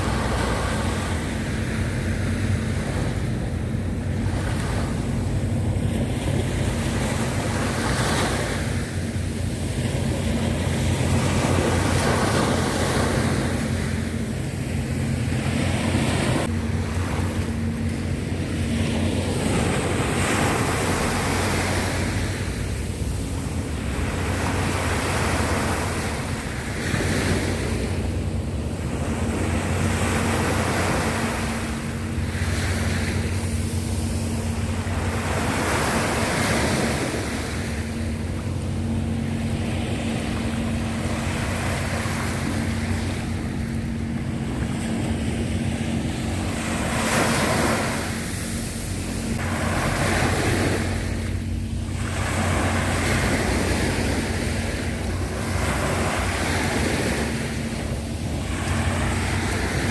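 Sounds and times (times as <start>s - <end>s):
sea waves washing in: 0.0s - 59.9s
steady low hum: 0.0s - 59.9s.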